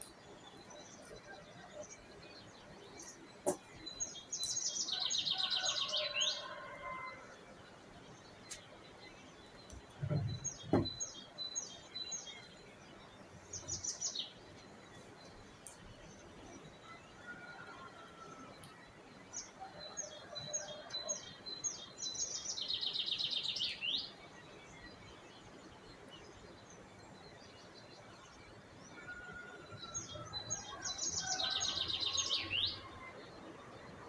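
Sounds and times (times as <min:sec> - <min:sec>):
songbird trilling song: 0:00.0 - 0:34.0.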